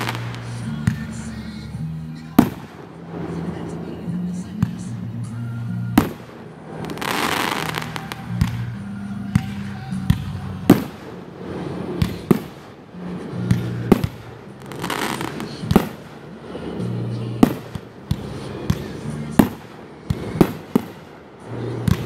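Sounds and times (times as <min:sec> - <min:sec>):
fireworks hiss: 0:00.0 - 0:05.4, 0:06.0 - 0:08.8, 0:10.7 - 0:22.0
fireworks bursting with bangs: 0:00.0 - 0:22.0
low steady tones: 0:00.0 - 0:22.0.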